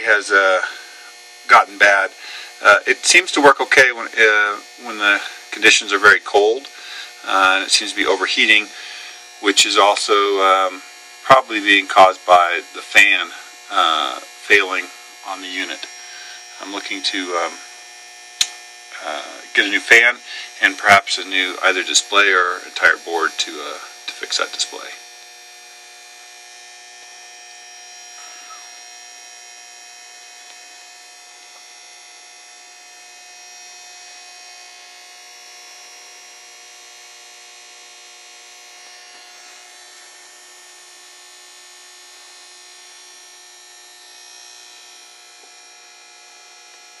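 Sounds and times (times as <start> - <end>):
faint electrical hum: 0.0 - 47.0.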